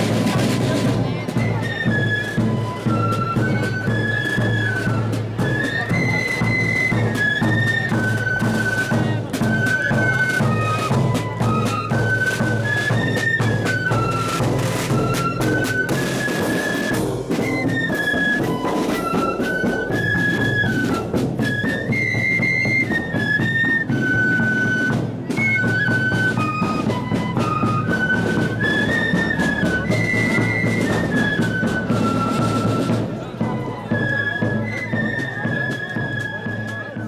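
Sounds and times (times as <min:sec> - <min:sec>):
steady drum beat: 0:00.0 - 0:35.0
high flute melody: 0:00.0 - 0:37.0.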